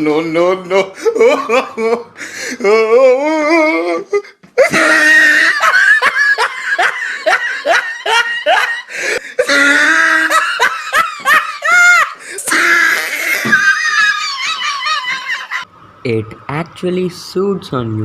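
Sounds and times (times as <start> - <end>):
person laughing heartily: 0.6 - 15.7.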